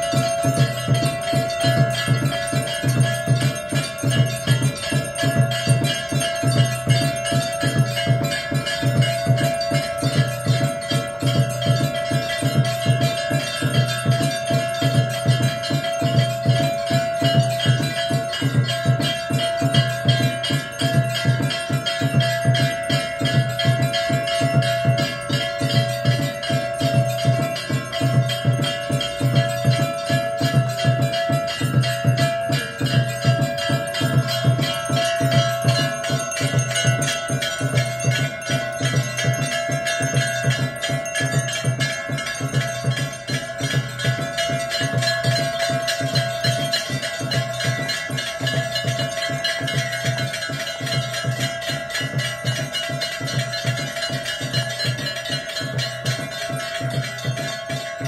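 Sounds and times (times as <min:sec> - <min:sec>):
drum beating fast rhythm: 0:00.0 - 0:58.0
temple bells and chimes ringing: 0:00.0 - 0:58.0.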